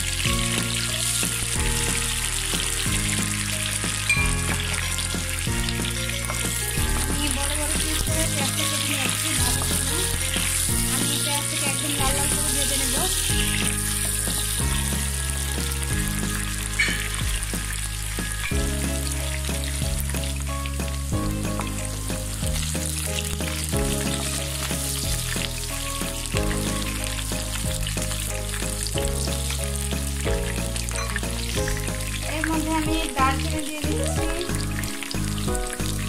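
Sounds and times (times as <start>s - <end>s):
background music with low notes: 0.0s - 36.0s
onion sizzling in oil: 0.0s - 36.0s
wooden spatula stirring: 0.0s - 36.0s.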